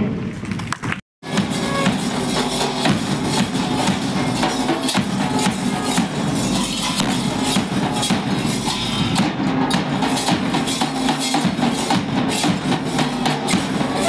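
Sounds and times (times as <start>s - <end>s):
bass drum: 1.2s - 14.0s
snare drum: 1.2s - 14.0s
hand cymbals: 1.3s - 14.0s.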